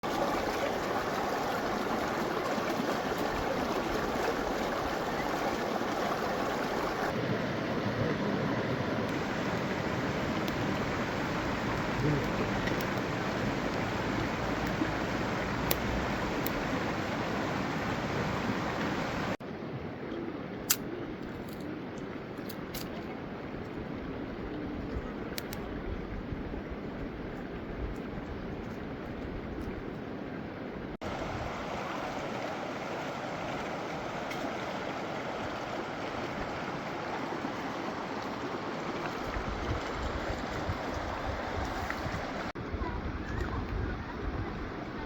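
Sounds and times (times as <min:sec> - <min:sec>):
stream flowing: 0:00.0 - 0:45.0.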